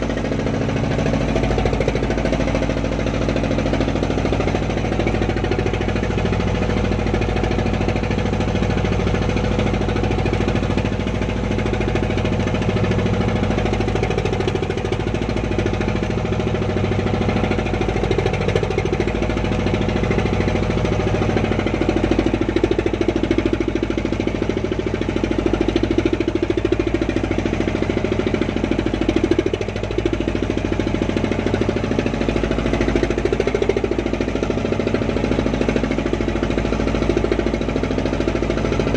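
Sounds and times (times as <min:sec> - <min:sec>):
boat engine knocking: 0:00.0 - 0:38.9.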